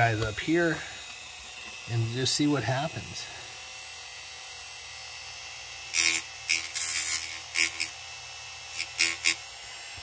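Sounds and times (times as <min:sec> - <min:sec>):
rotary tool running: 0:00.0 - 0:10.0.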